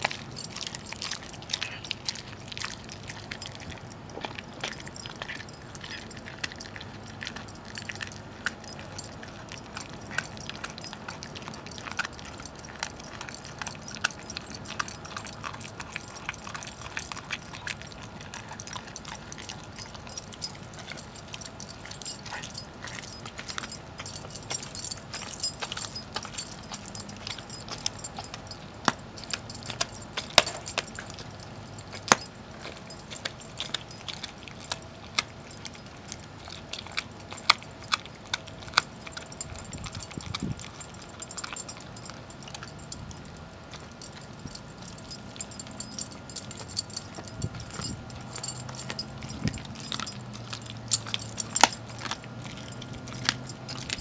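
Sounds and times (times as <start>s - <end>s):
collar tags jingling: 0.0s - 54.0s
dog gnawing and crunching bone: 0.0s - 54.0s.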